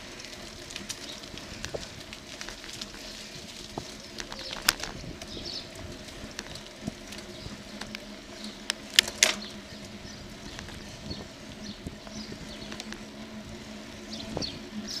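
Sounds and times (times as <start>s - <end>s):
bicycle road noise hum: 0.0s - 15.0s
small birds chirping: 0.8s - 15.0s.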